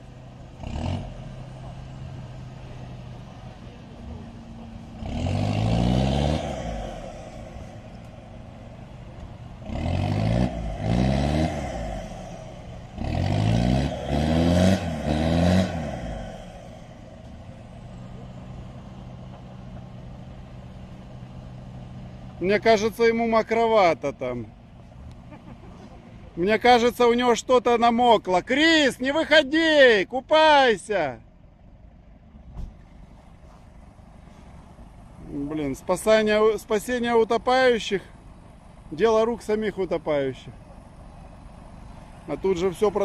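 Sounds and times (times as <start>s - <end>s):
off-road engine revving: 0.0s - 31.1s, 32.5s - 43.0s
low engine hum: 0.0s - 43.0s.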